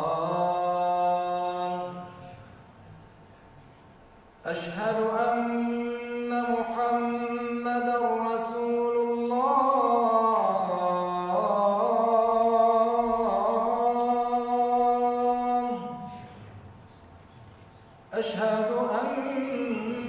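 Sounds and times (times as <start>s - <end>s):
man singing call to prayer: 0.0s - 2.5s, 4.4s - 16.5s, 18.1s - 20.0s.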